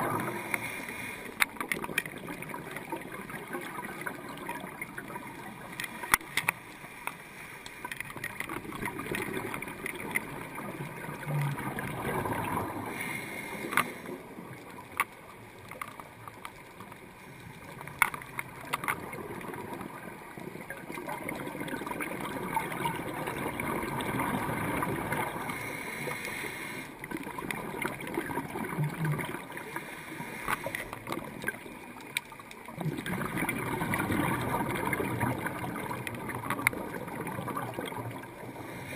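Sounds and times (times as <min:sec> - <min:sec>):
underwater hiss and gurgle: 0:00.0 - 0:38.9.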